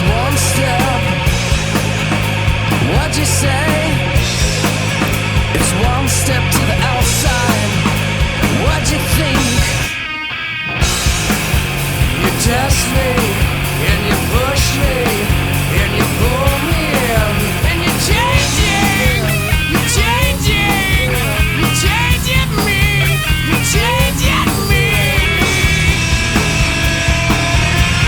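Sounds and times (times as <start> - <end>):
drum beat: 0.0 - 9.9, 10.8 - 28.0
bass guitar: 0.0 - 28.0
bending lead guitar lines: 0.0 - 28.0.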